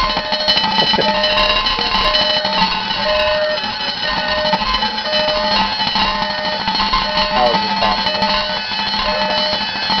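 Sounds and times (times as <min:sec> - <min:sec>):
alarm clock beeping: 0:00.0 - 0:10.0
alarms ringing and buzzing: 0:00.0 - 0:10.0.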